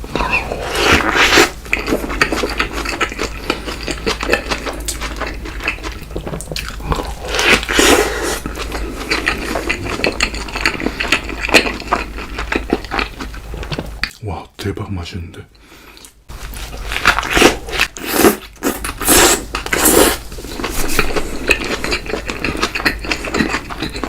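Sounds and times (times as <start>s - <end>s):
biting and chewing: 0.1s - 14.2s, 16.0s - 24.0s.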